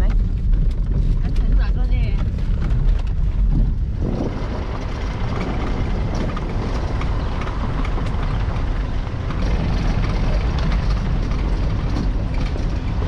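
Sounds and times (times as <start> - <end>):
car engine and road rumble: 0.0 - 13.0
knocks and rattles over bumps: 0.0 - 13.0.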